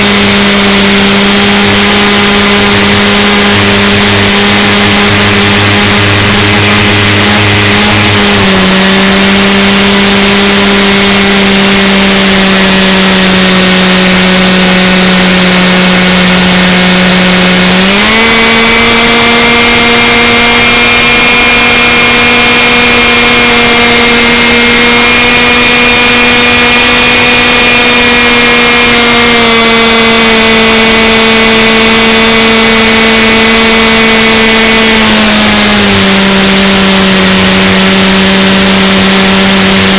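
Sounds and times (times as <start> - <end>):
engine running loud and rough: 0.0 - 39.9.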